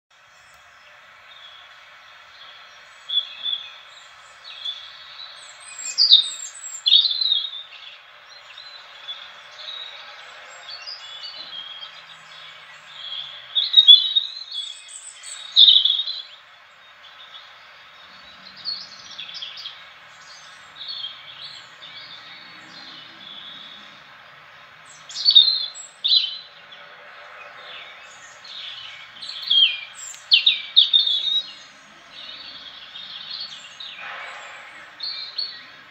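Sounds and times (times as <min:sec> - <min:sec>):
faint steady hiss: 0:00.2 - 0:35.9
robin singing: 0:00.2 - 0:35.9.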